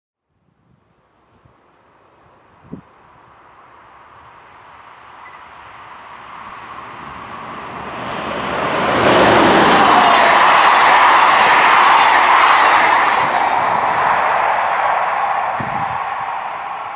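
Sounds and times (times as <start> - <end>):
electric train rolling: 2.0 - 16.9.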